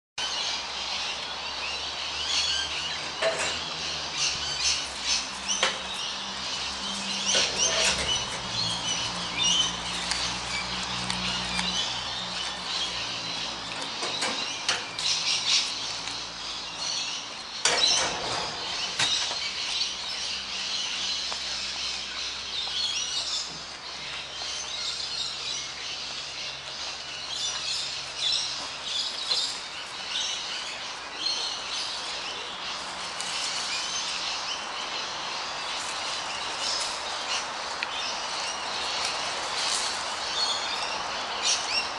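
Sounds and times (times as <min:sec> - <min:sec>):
small birds chirping: 0:00.2 - 0:41.9.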